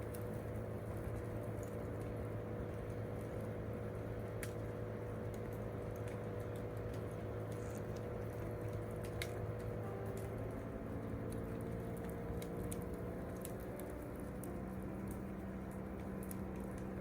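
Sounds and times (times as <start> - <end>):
campfire crackling: 0.0 - 17.0
low hum: 0.0 - 17.0.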